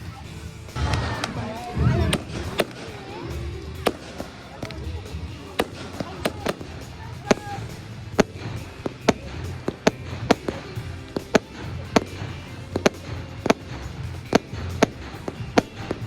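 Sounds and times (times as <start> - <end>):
music: 0.0 - 16.0
fireworks bangs: 0.8 - 14.0.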